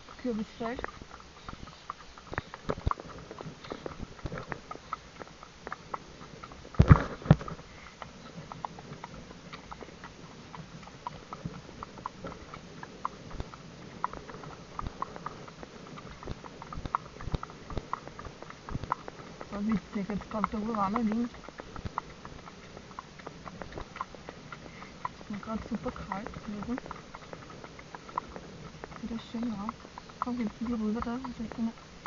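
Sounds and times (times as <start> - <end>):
horse hooves clopping: 0.0 - 32.0.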